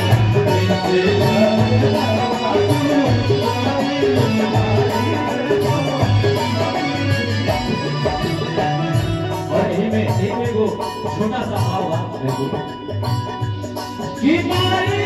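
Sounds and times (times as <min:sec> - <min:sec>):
person singing: 0:00.0 - 0:13.3
hand drum beat: 0:00.0 - 0:15.0
sustained folk melody: 0:00.0 - 0:15.0.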